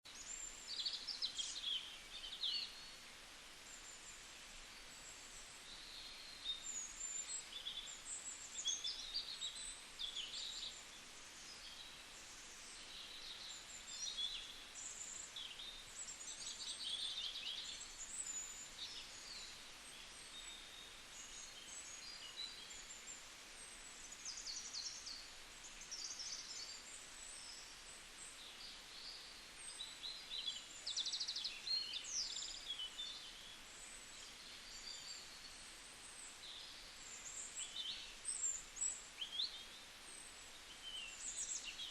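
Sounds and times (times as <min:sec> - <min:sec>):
faint background hiss: 0:00.0 - 0:41.9
songbirds chirping and trilling: 0:00.0 - 0:41.9.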